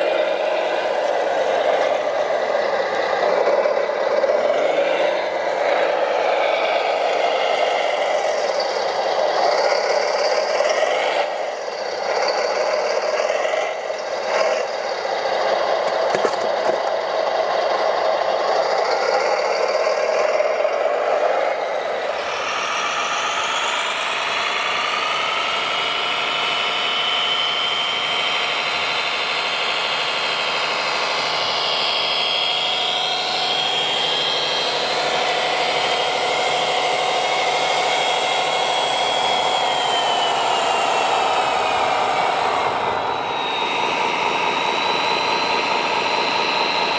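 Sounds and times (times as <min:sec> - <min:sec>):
electric motors whining: 0:00.0 - 0:46.9.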